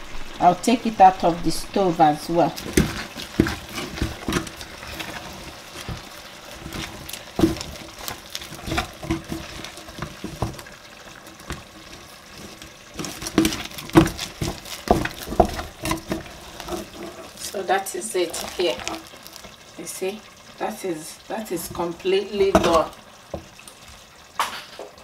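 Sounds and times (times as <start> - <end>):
wooden spatula knocking and scraping pot: 1.0 - 19.7, 21.5 - 23.6.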